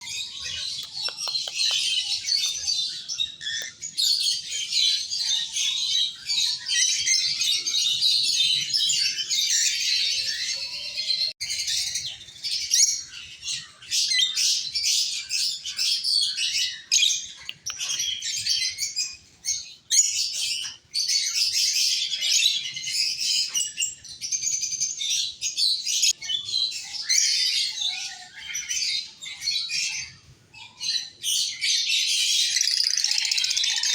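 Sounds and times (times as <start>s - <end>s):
lovebirds chirping and squawking: 0.0s - 33.9s.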